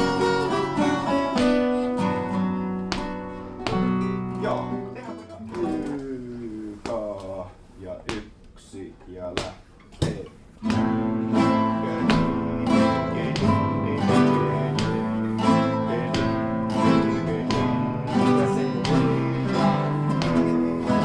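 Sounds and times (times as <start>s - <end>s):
acoustic guitar strumming chords: 0.0s - 6.9s, 10.0s - 21.0s.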